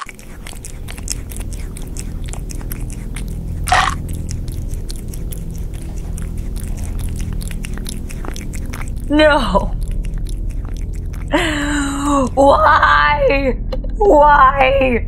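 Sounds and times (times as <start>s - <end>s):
chewing and biting: 0.0s - 12.4s
low steady drone: 0.0s - 15.0s.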